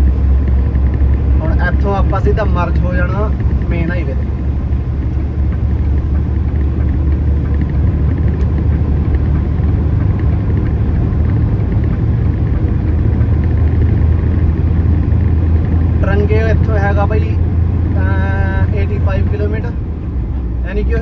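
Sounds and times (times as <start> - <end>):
road noise: 0.0 - 21.0
truck diesel engine rumble: 0.0 - 21.0.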